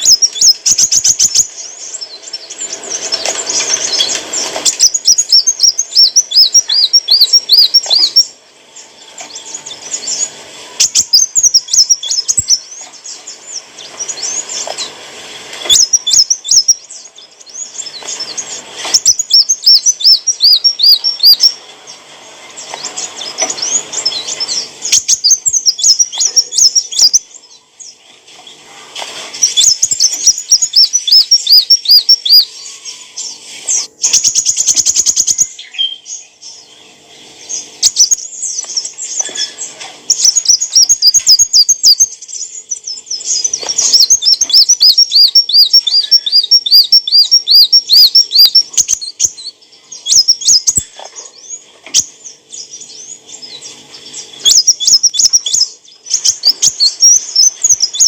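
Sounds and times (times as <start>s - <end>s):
sunbird high thin chirping: 0.0s - 58.0s.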